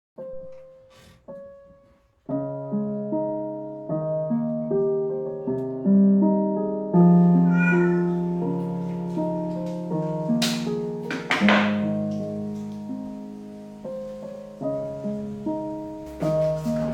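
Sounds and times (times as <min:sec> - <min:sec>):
piano music: 0:00.2 - 0:16.9.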